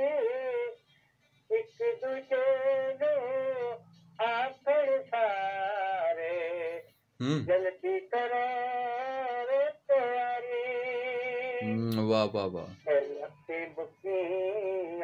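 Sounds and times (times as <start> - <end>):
person singing over phone: 0.0 - 15.0.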